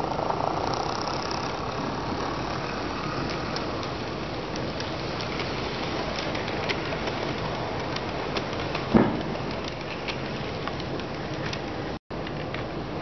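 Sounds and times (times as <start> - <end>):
model train wheels clicking: 0.0 - 12.6.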